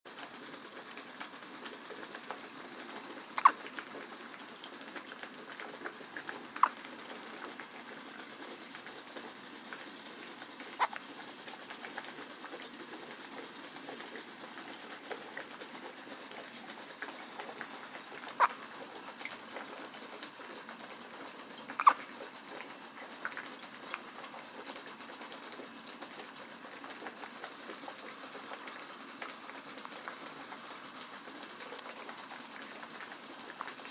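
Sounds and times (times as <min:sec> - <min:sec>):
steady hiss: 0:00.1 - 0:33.9.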